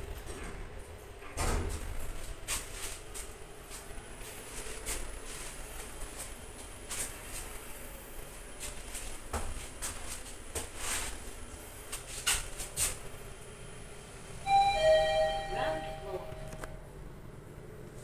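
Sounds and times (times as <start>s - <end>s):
elevator hum: 0.0s - 18.0s.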